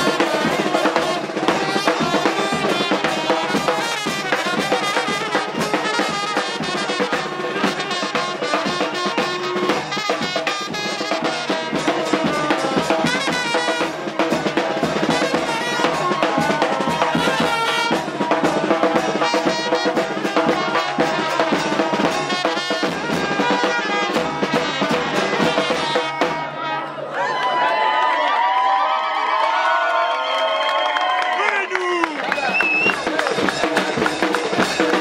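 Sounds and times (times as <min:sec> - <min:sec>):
music with drum beat and brass: 0:00.0 - 0:26.9, 0:32.5 - 0:35.0.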